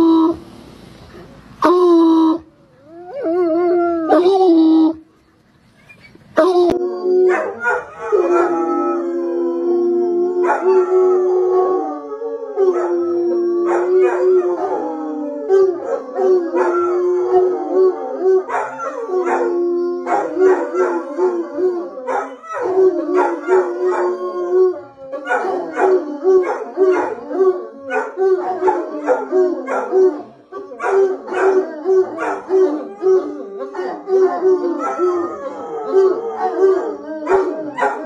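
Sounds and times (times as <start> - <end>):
hounds howling and baying: 6.4 - 38.0.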